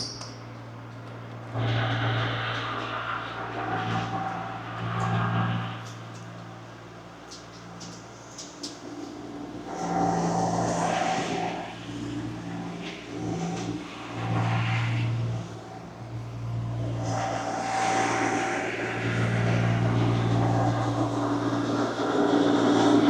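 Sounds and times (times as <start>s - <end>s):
earthmoving machine engine: 0.0s - 23.0s.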